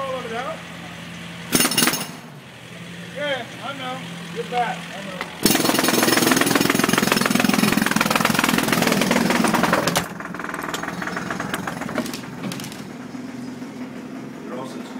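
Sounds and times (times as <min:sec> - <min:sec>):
jackhammer pounding: 0:01.3 - 0:14.9.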